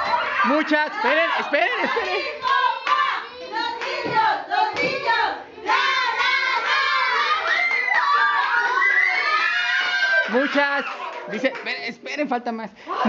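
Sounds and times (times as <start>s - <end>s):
children shouting and cheering: 0.0s - 11.4s.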